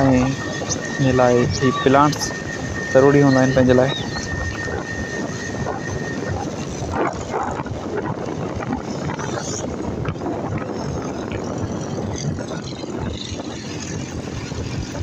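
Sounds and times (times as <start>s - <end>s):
motorcycle engine running: 0.0s - 15.0s
thin steady whine: 0.0s - 15.0s
wind rushing over microphone: 0.0s - 15.0s.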